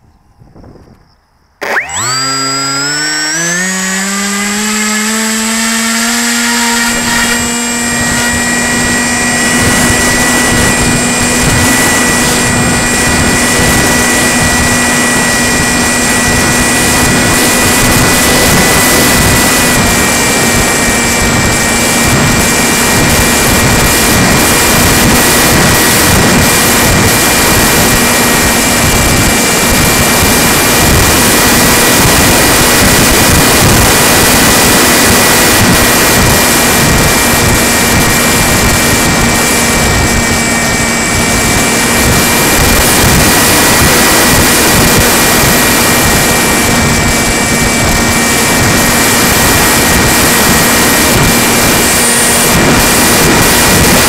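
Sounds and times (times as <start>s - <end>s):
model plane motor whine: 1.6s - 54.0s.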